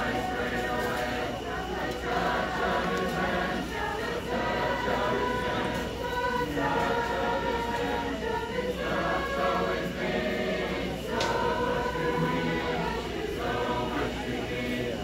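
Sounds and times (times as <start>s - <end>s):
group singing unaccompanied: 0.0s - 15.0s.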